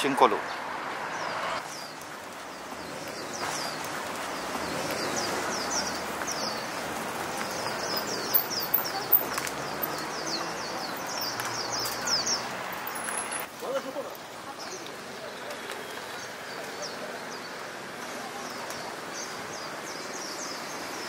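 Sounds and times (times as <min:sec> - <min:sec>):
street traffic hum: 0:00.0 - 0:21.0
small birds chirping: 0:00.4 - 0:21.0.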